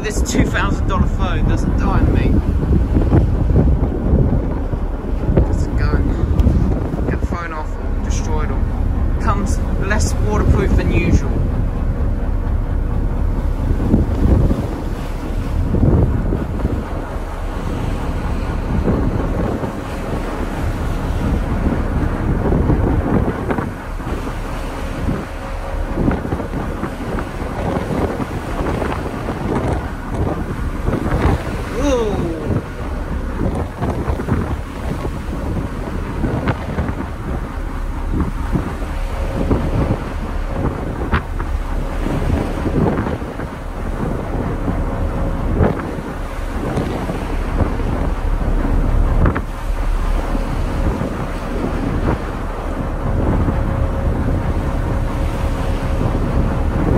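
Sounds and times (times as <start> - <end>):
strong wind buffeting microphone: 0.0 - 56.9
white water rushing along hull: 0.0 - 56.9.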